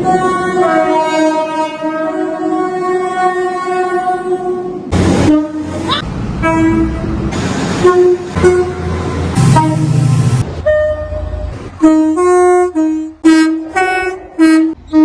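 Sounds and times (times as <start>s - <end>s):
train horn blasts: 0.0s - 7.2s, 7.8s - 15.0s
train running noise: 0.0s - 15.0s.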